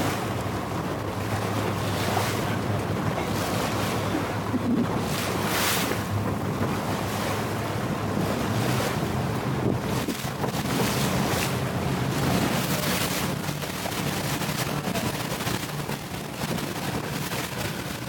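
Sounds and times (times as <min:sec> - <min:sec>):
motorboat engine hum: 0:00.0 - 0:18.0
water rushing along hull: 0:00.0 - 0:18.0
wind buffeting microphone: 0:00.0 - 0:18.0.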